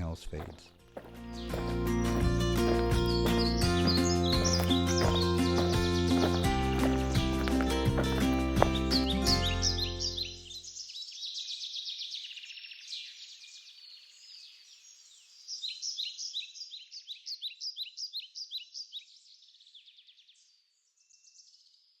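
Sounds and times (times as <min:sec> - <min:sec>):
rapid repeated bird chirps: 0:00.0 - 0:22.0
small birds chirping: 0:00.0 - 0:22.0.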